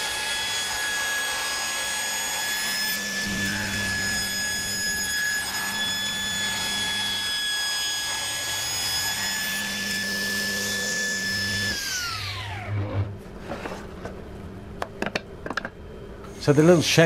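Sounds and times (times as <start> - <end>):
table saw whining: 0.0 - 13.9.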